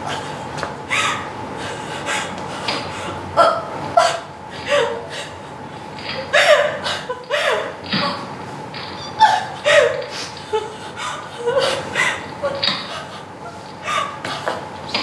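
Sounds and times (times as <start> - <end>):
woman sobbing and gasping: 0.9 - 7.8, 9.0 - 14.3.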